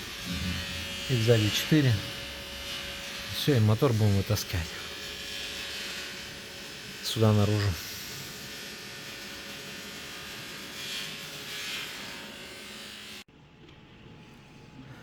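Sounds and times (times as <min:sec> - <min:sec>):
electric buzz: 0:00.0 - 0:13.3.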